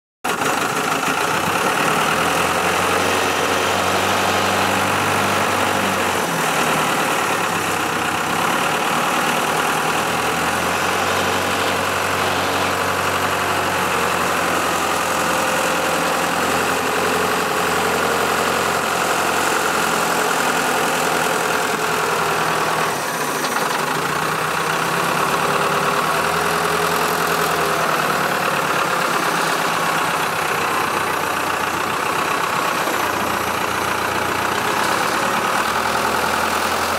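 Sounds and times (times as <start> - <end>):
diesel crane engine running: 0.3 - 36.9.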